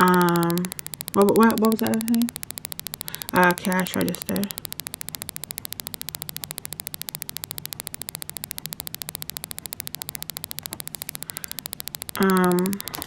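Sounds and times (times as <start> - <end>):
low mains hum: 0.0 - 13.0
rapid static clicks: 0.0 - 13.0.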